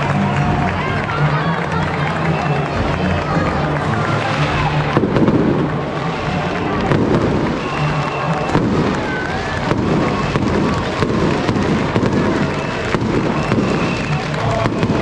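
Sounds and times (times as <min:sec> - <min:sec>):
firecrackers cracking: 0:02.7 - 0:15.0.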